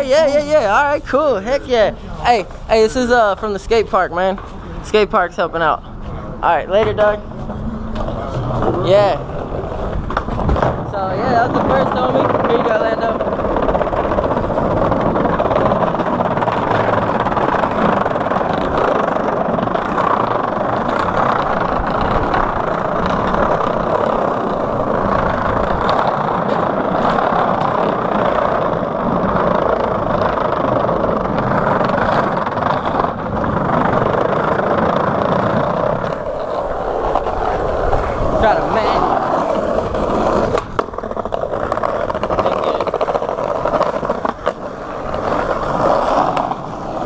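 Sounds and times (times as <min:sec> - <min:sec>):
skateboard wheels rumbling on wood: 0:00.0 - 0:47.0.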